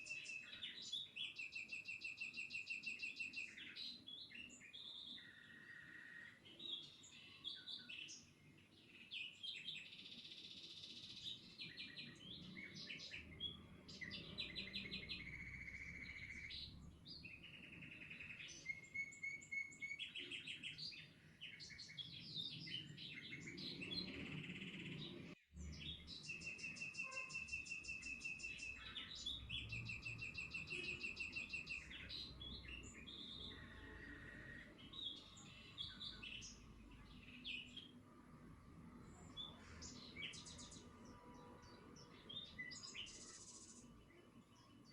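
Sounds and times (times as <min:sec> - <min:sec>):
songbirds singing: 0:00.0 - 0:44.9.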